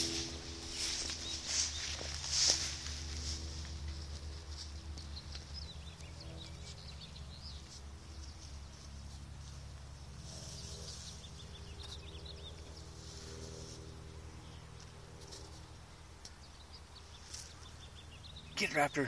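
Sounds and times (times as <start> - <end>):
long grass rustling: 0.0 - 18.4
small birds chirping: 0.0 - 19.0
steady low hum: 0.0 - 19.0.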